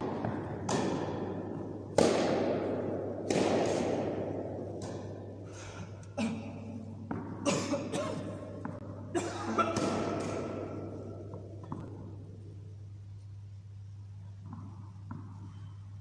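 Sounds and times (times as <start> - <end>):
tennis balls knocking and bouncing: 0.0 - 12.5, 14.2 - 16.0.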